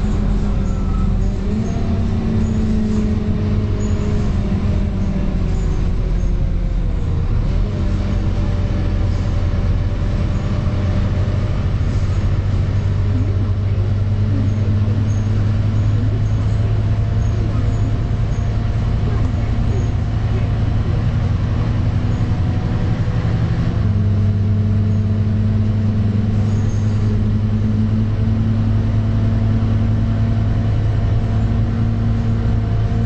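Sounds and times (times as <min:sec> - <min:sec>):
bus diesel engine drone: 0:00.0 - 0:33.0.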